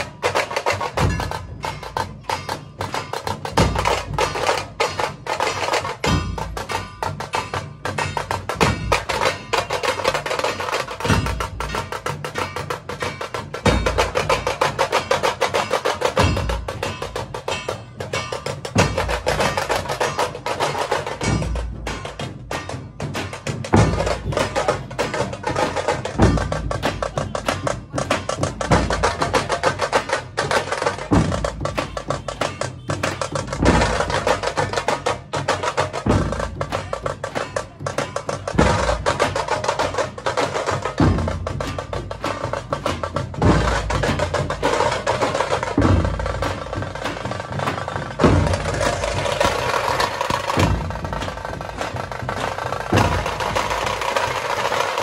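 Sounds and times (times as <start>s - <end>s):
deep drum beats: 0.0s - 55.0s.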